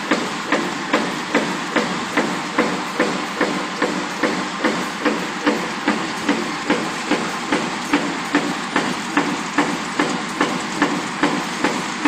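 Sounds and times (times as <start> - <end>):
machinery running noise: 0.0 - 12.0.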